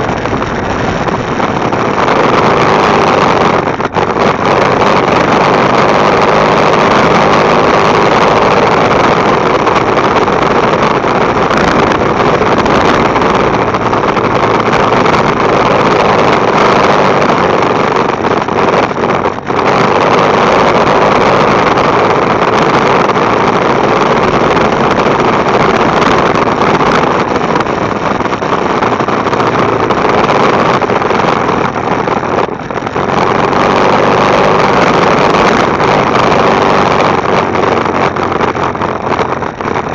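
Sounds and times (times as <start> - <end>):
motorcycle engine: 0.0 - 39.9
wind rushing on microphone: 0.0 - 39.9.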